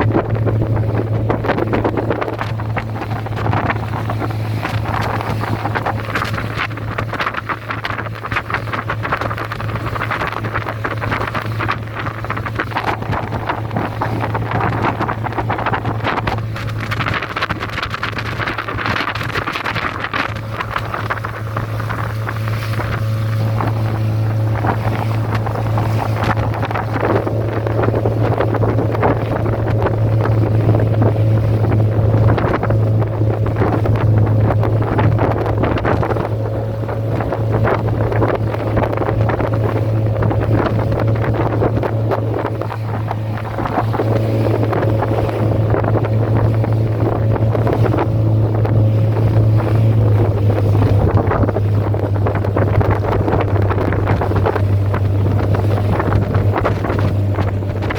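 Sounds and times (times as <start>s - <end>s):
motorboat engine droning: 0.0s - 57.9s
wind buffeting microphone: 0.0s - 57.9s.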